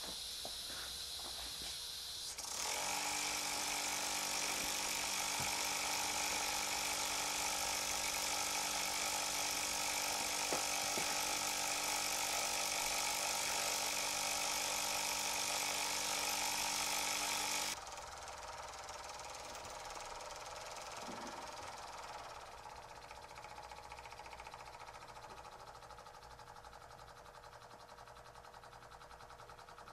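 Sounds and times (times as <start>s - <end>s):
model steam engine whirring: 2.2s - 29.9s.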